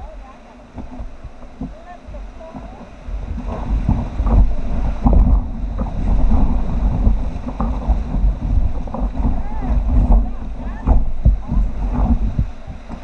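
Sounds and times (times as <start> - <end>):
paddle splashes: 0.0 - 13.0
rushing whitewater: 0.0 - 13.0
wind buffeting microphone: 0.0 - 13.0.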